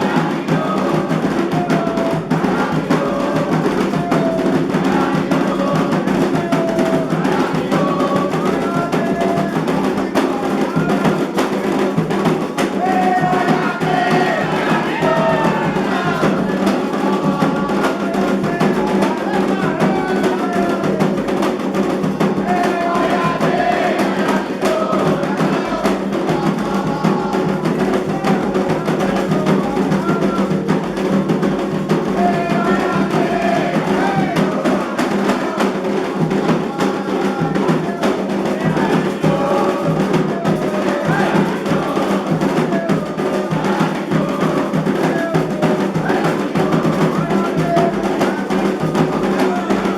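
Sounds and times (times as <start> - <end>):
group singing chants: 0.0 - 49.9
hand drums playing: 0.0 - 49.9.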